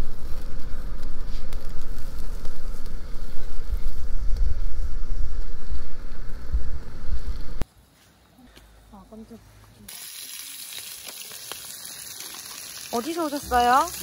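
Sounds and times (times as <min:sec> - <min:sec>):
crackling campfire: 0:00.0 - 0:14.0.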